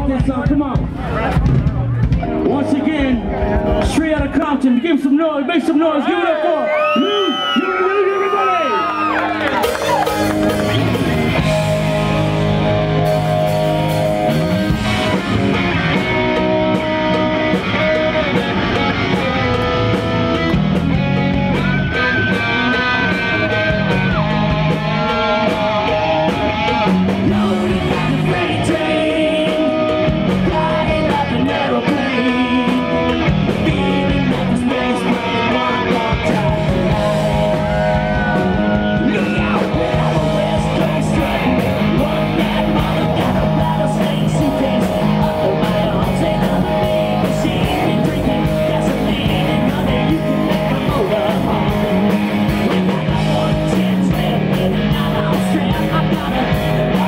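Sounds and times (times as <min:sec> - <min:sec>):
live hard rock band: 0:00.0 - 0:05.1, 0:06.8 - 0:57.0.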